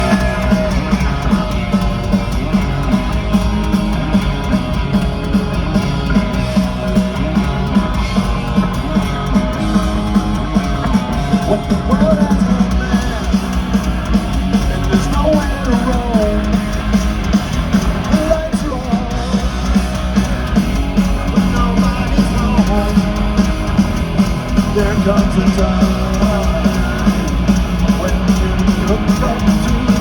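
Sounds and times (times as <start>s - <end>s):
electric guitars: 0.0s - 30.0s
punk rock band playing live: 0.0s - 30.0s.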